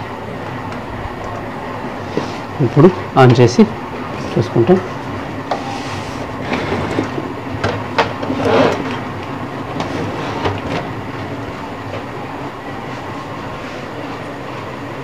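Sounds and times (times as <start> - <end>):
rumbling background noise: 0.0 - 15.0.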